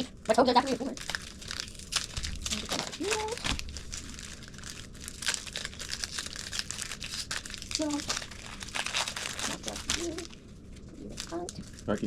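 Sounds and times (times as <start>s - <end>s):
plastic and foil packaging crinkling: 0.0s - 12.0s.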